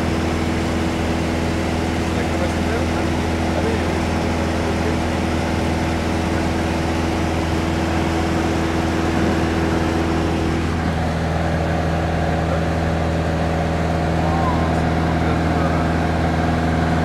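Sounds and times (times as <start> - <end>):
aircraft engine and propeller drone: 0.0 - 17.0.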